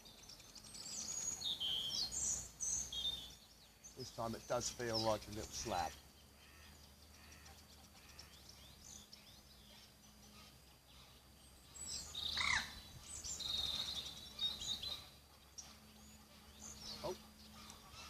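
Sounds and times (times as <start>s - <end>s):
faint outdoor background noise: 0.0s - 18.0s
wild birds chirping: 0.0s - 18.0s.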